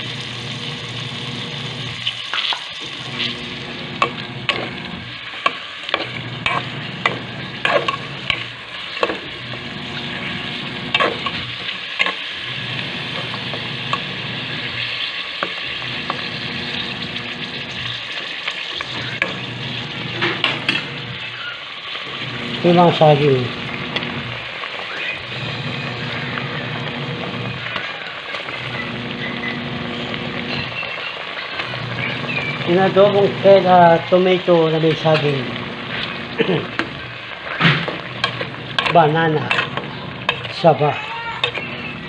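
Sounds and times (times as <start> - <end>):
meat sizzling in a pot: 0.0 - 42.0.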